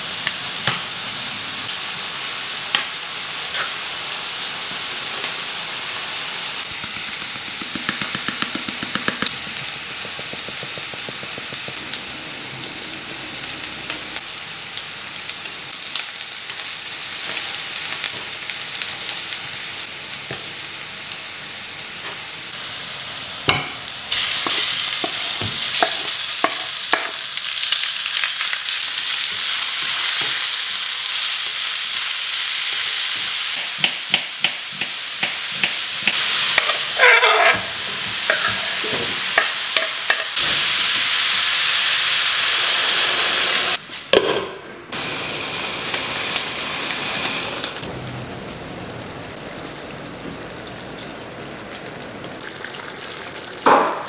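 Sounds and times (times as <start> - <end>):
food sizzling in a pan: 0.0 - 44.2, 44.8 - 54.0.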